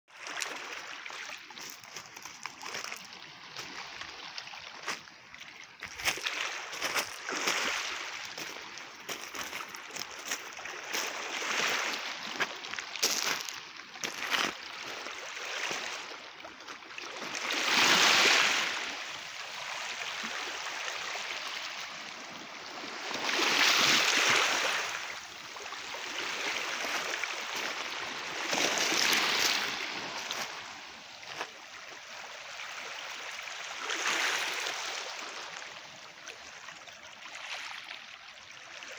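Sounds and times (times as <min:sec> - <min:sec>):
small waves lapping on pebbles: 0:00.1 - 0:38.9.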